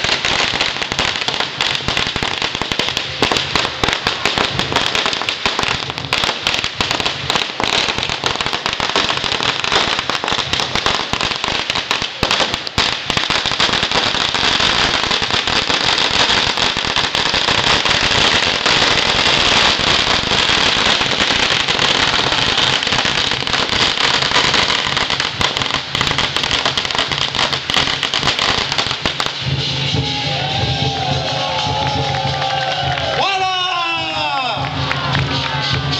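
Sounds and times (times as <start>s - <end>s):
firecrackers crackling: 0.0s - 35.9s.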